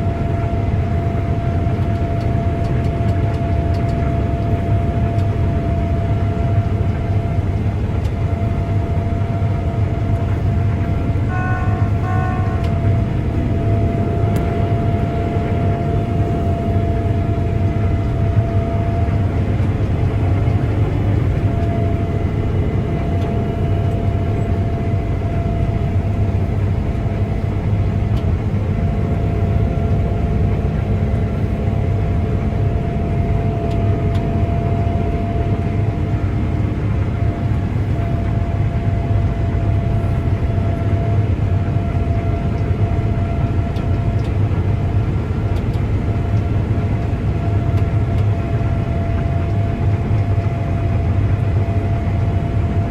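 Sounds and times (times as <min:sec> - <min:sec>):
harvester engine drone: 0:00.0 - 0:52.9
thin machine whine: 0:00.0 - 0:52.9.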